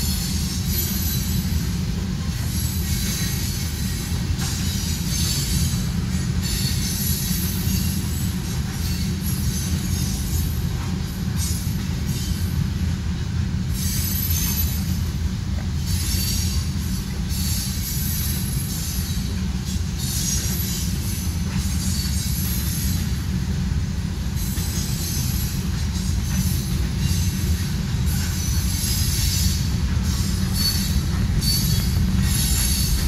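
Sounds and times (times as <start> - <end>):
freight train rumble: 0.0 - 33.0
wheel squeal: 2.3 - 12.6, 13.7 - 15.1, 15.8 - 23.2, 24.4 - 33.0.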